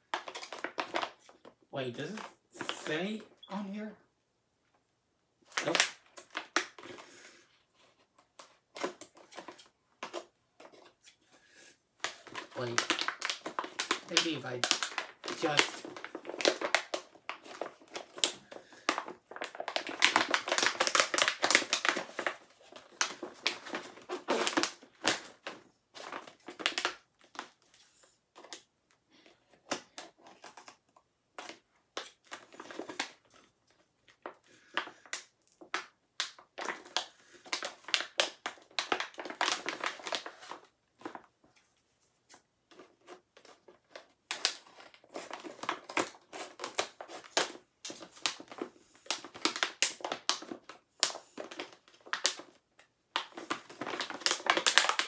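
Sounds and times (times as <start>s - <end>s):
wrapping crinkling and crackling: 0.0s - 3.8s, 5.4s - 11.3s, 12.0s - 55.0s.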